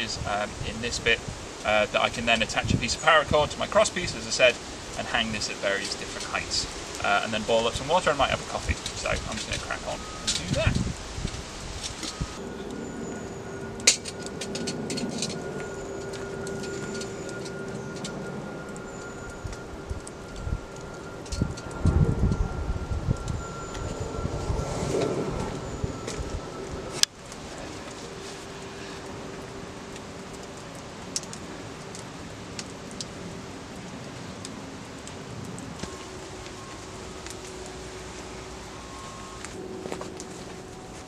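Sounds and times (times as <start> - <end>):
campfire crackling and popping: 0.0 - 41.0.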